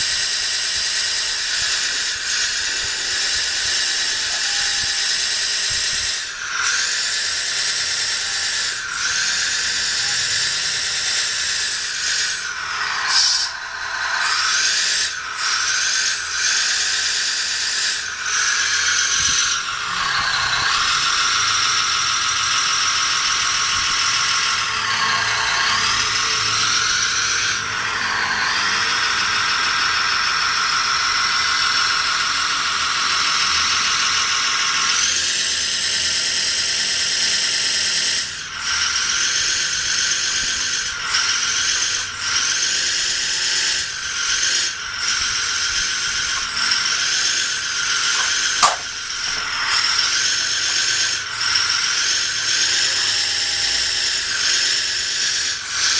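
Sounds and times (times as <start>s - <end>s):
electric motor whining: 0.0s - 55.9s.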